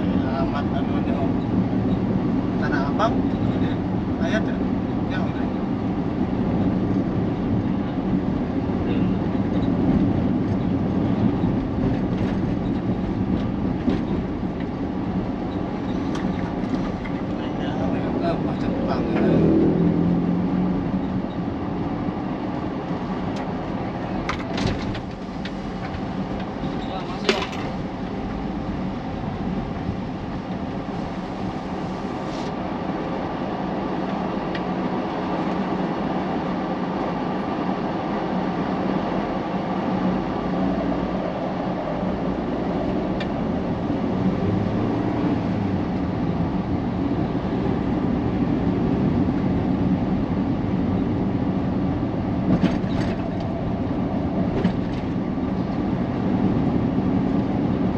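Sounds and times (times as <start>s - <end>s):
road traffic noise: 0.0s - 57.9s
vehicle engine drone: 0.0s - 57.9s.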